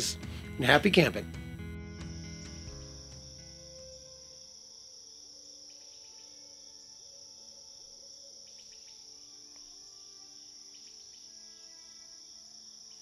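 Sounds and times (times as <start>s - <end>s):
insects chirring: 1.9s - 13.0s.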